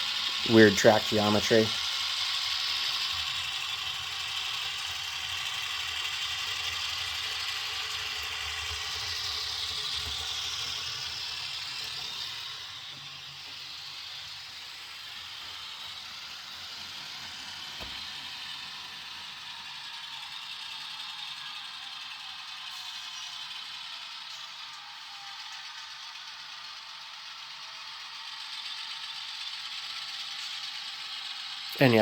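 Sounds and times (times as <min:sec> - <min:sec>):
model train whirring and rattling: 0:00.0 - 0:32.0.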